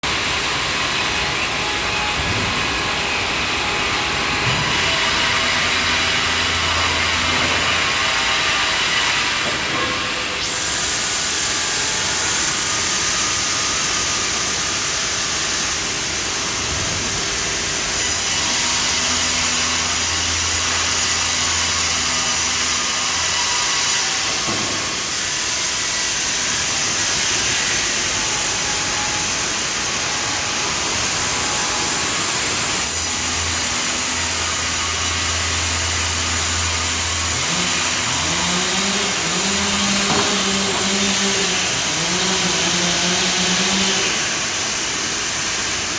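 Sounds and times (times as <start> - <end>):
band sawmill running: 0.0 - 45.9.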